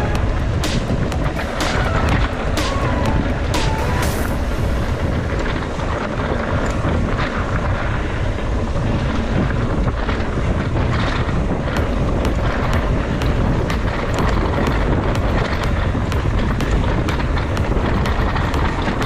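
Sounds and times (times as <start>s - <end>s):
bike knocking and rattling: 0.0s - 2.6s, 5.0s - 19.0s
wind buffeting microphone: 0.0s - 19.0s.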